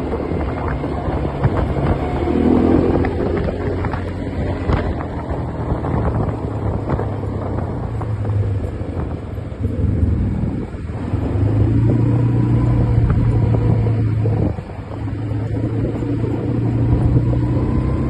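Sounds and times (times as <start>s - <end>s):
quad bike engine running: 0.0s - 18.0s
wind on microphone: 0.0s - 18.0s.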